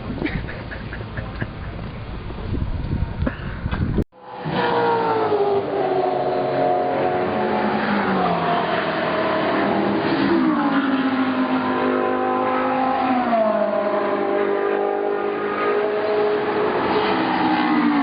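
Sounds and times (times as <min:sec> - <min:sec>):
race car engines at speed: 0:00.0 - 0:18.0.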